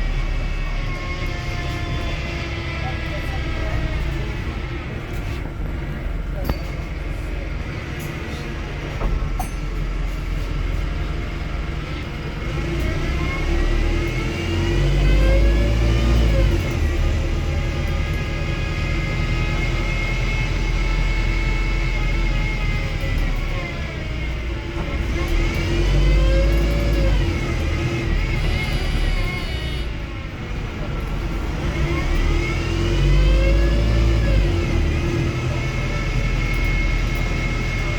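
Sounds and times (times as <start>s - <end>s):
bus drivetrain whine: 0.0s - 37.9s
low engine rumble: 0.0s - 37.9s.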